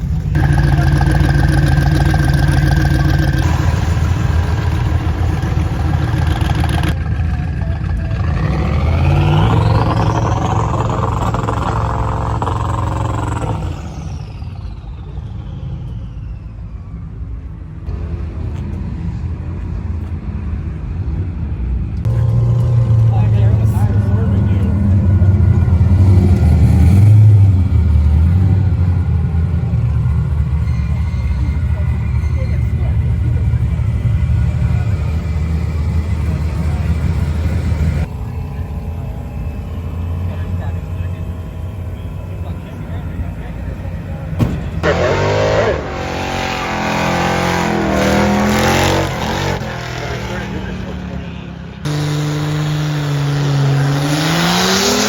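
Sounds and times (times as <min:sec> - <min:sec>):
engine revving: 0:00.0 - 0:15.6, 0:22.0 - 0:55.0.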